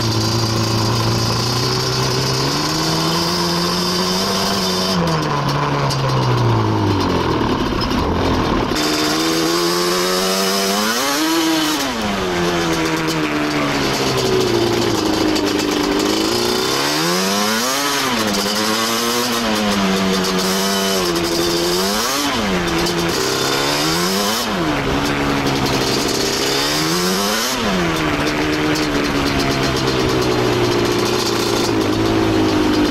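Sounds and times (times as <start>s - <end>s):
two-stroke engine revving: 0.0s - 32.9s.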